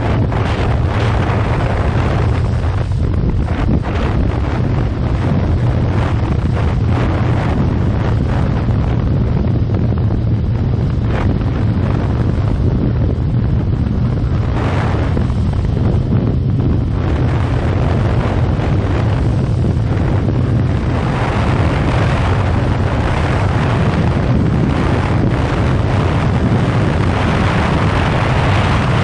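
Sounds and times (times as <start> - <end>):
motorcycle and road rumble: 0.0 - 29.0
wind buffeting microphone: 0.0 - 29.0.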